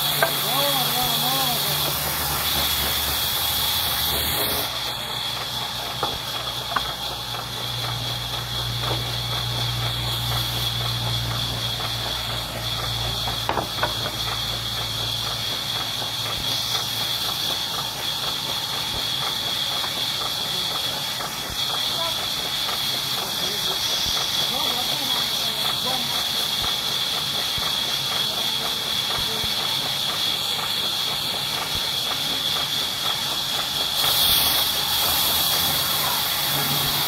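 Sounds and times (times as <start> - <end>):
saw machine whining: 0.0 - 37.0.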